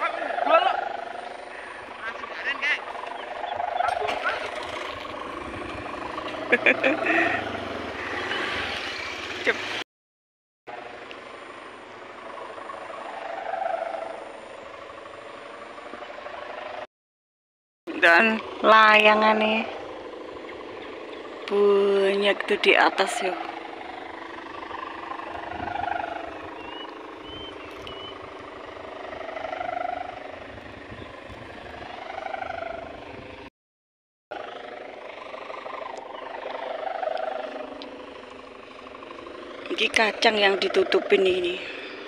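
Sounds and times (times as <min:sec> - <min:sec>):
kite hummer droning: 0:00.0 - 0:09.8, 0:10.7 - 0:16.9, 0:17.9 - 0:33.5, 0:34.3 - 0:42.0.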